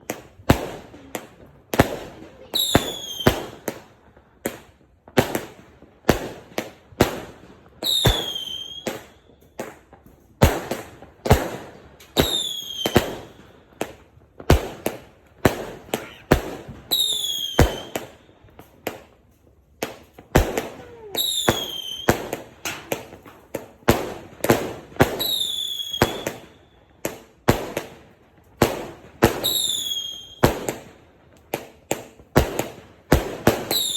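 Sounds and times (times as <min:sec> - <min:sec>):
fireworks bangs: 0:00.0 - 0:33.9.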